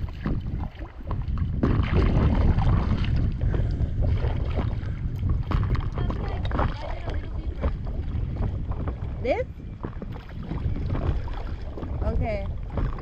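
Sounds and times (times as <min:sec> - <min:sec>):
water splashing around a paddleboard: 0:00.0 - 0:13.0
wind buffeting the microphone: 0:00.0 - 0:13.0.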